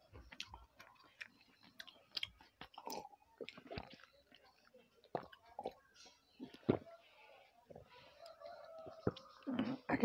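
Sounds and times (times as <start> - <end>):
chewing food: 0.0 - 10.0.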